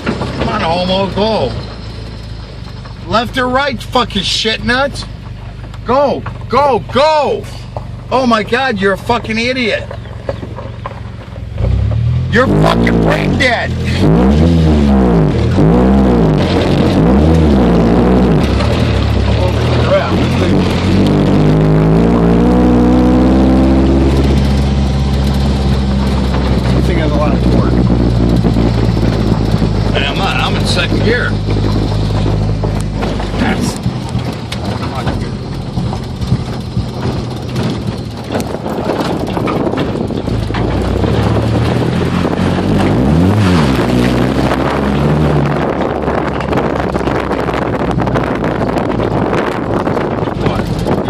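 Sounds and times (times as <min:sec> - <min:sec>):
pickup engine accelerating: 0:00.0 - 0:51.0.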